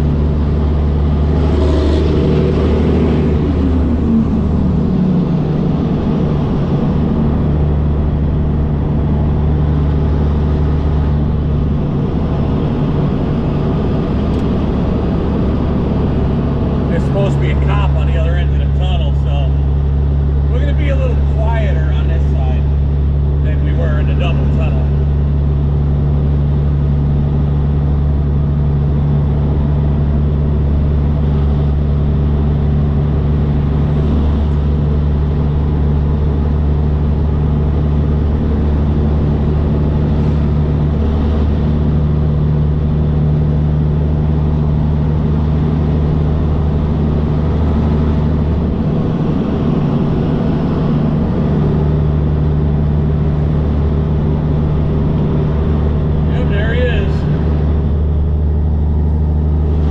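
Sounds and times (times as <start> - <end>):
road noise: 0.0 - 59.9
truck diesel engine droning: 0.0 - 59.9.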